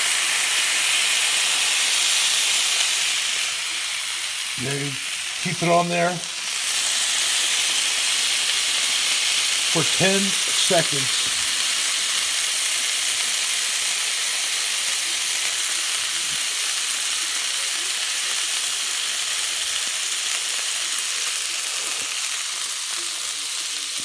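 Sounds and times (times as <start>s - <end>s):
meat sizzling on a griddle: 0.0s - 24.0s.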